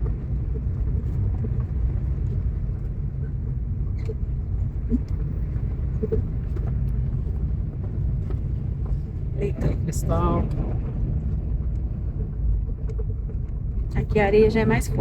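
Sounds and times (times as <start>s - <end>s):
car driving on dirt road: 0.0s - 15.0s.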